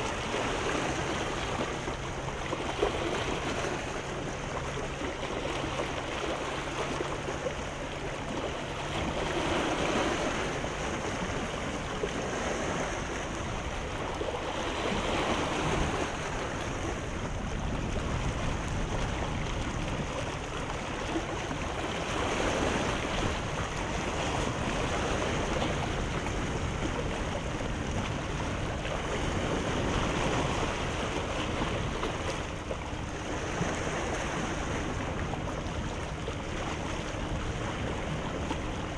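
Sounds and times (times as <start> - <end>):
sea waves washing on shore: 0.0 - 38.9
wind: 0.0 - 38.9.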